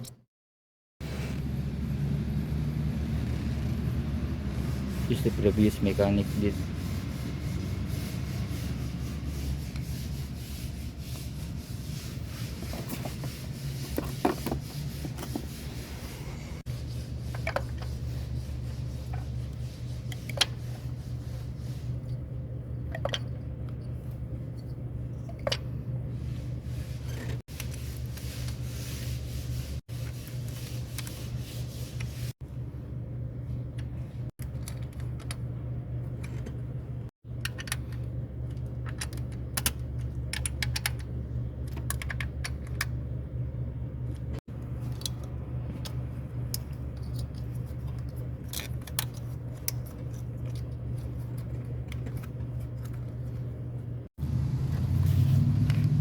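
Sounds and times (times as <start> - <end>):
steady low hum: 1.0 - 56.0.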